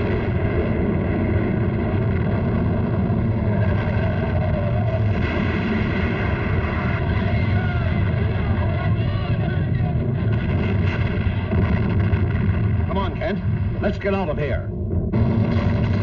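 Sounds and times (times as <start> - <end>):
cartoon earthquake rumble: 0.0 - 16.0.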